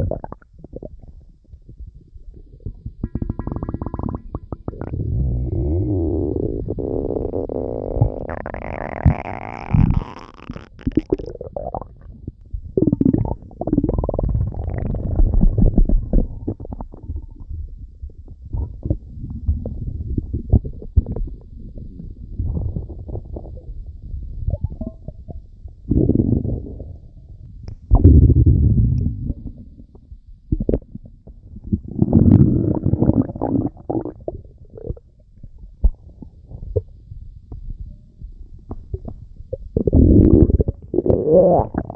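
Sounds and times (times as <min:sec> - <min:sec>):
stomach rumbling and gurgling: 0:00.0 - 0:41.9.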